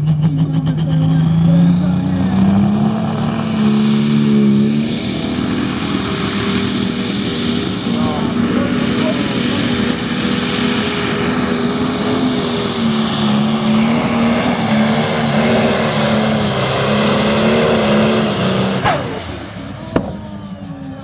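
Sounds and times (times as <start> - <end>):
tractor diesel engine running under load: 0.0 - 21.0.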